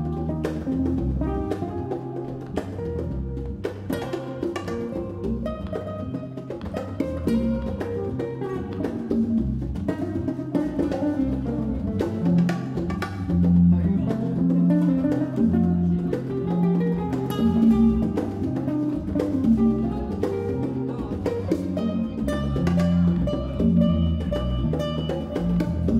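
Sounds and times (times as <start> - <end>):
acoustic guitar: 0.0 - 25.9
congas: 0.0 - 25.9
electric bass walking line: 0.0 - 25.9.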